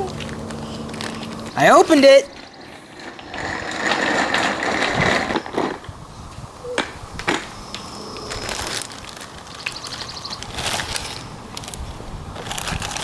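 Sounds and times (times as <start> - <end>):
plastic bag crinkling: 0.0 - 5.9, 8.3 - 13.0.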